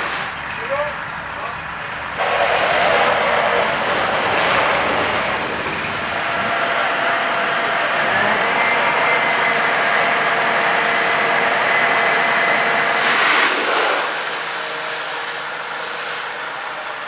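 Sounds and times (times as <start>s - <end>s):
fire truck engine and pump running: 0.0s - 17.0s.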